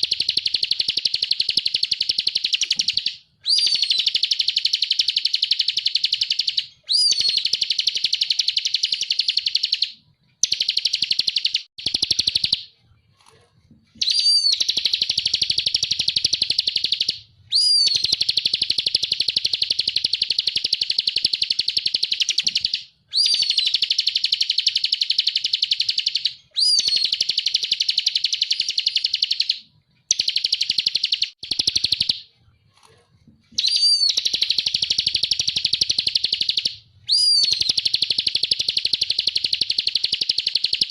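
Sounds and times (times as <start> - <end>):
bird song with rapid trills: 0.0 - 12.7, 14.0 - 32.3, 33.6 - 40.9.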